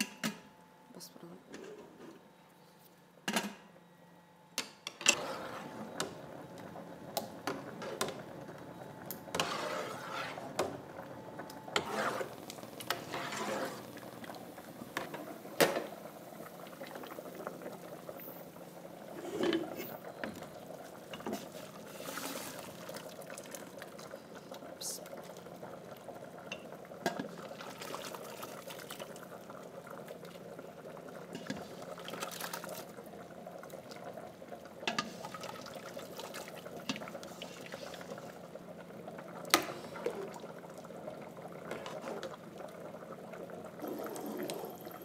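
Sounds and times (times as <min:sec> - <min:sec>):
pot simmering: 0:05.1 - 0:45.0.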